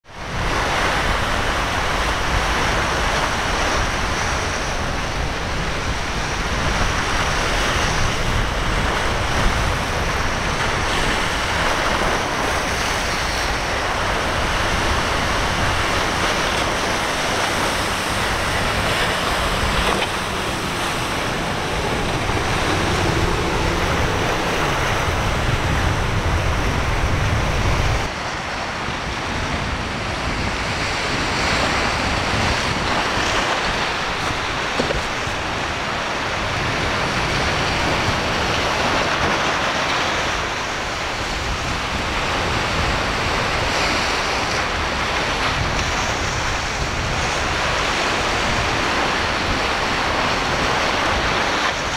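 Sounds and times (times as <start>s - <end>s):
ocean waves and surf: 0.0s - 51.9s
wind buffeting microphone: 0.0s - 51.9s.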